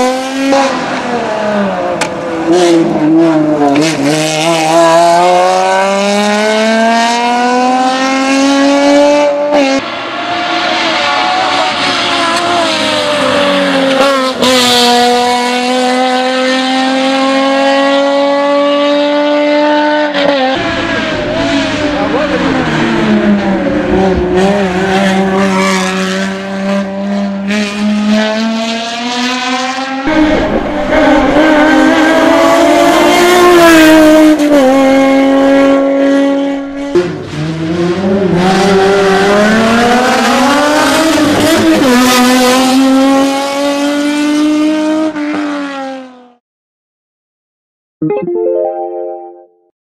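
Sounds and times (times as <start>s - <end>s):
race car engine revving: 0.0s - 46.1s.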